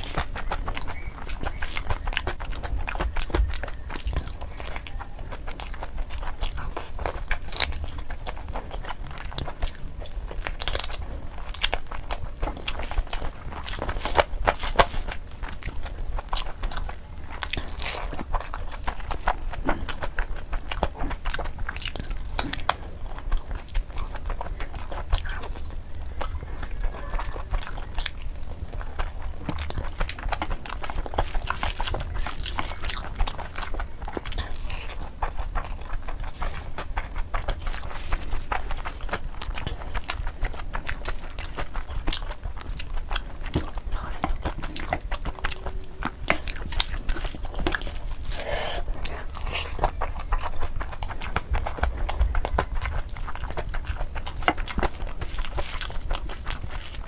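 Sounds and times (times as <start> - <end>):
chewing and lip-smacking: 0.0 - 57.0.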